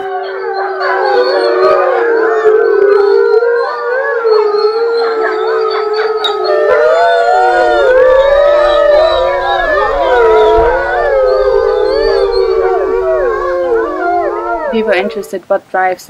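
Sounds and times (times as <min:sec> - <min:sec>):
wolves howling together: 0:00.0 - 0:15.4.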